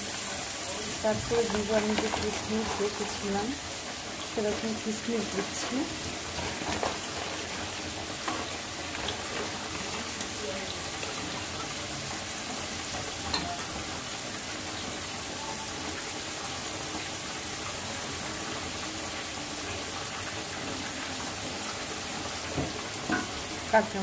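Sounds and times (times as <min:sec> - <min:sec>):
onions and spices sizzling in oil: 0:00.0 - 0:24.0.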